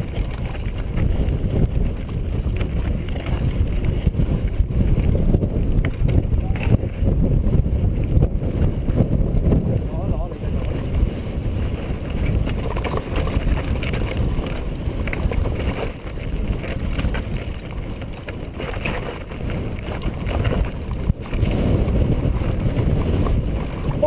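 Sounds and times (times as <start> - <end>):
bike rattling on stones: 0.0 - 9.5, 10.7 - 24.0
wind buffeting microphone: 0.0 - 24.0.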